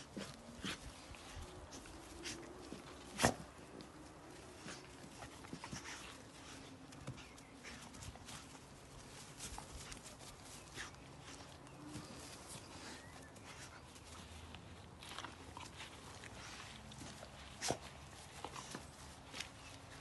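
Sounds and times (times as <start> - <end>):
dogs scuffling on grass: 0.0 - 20.0.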